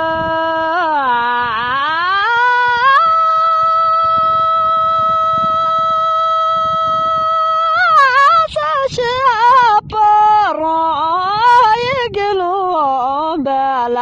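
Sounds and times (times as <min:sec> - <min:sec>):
person singing a high note: 0:00.0 - 0:13.3.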